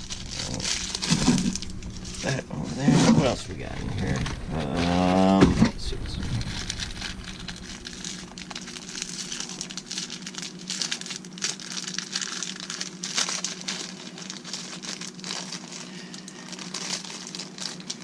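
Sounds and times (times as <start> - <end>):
plastic packaging crinkling: 0.0 - 18.0
steady low hum: 0.0 - 18.0.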